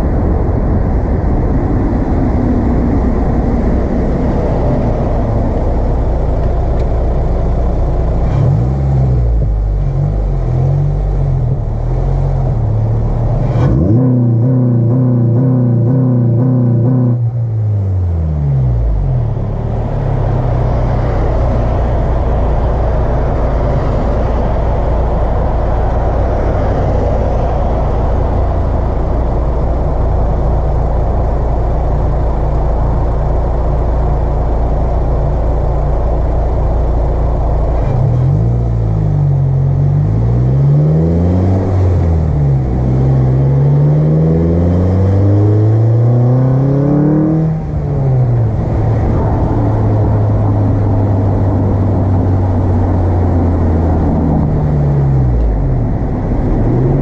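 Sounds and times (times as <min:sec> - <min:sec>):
car engine and intake rush: 0:00.0 - 0:57.0.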